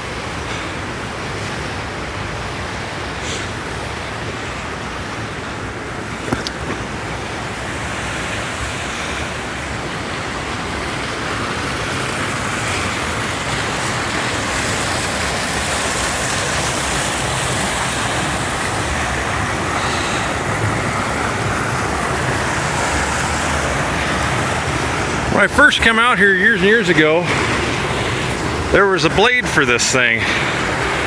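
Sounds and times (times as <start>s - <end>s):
creek water rushing: 0.0s - 31.0s.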